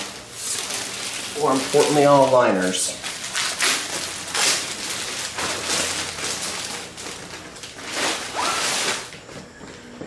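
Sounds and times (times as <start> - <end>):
rustling and crinkling liners: 0.0 - 10.0.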